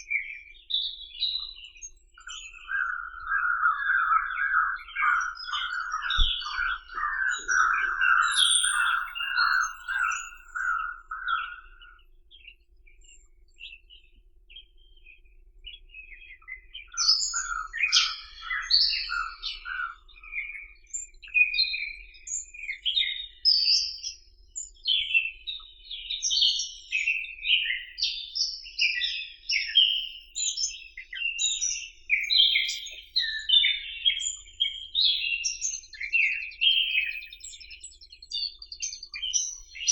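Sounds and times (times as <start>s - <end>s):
low repeated bird call: 0.0s - 39.9s
small birds chirping: 0.0s - 39.9s.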